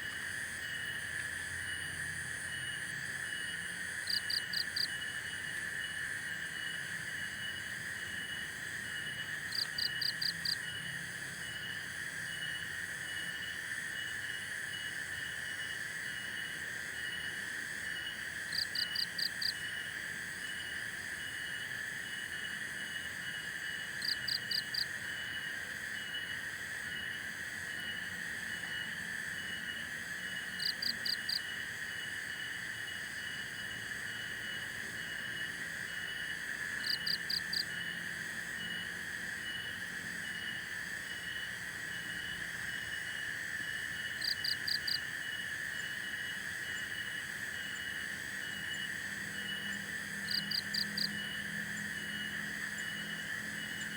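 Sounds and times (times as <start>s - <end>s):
high insect drone: 0.0s - 53.9s.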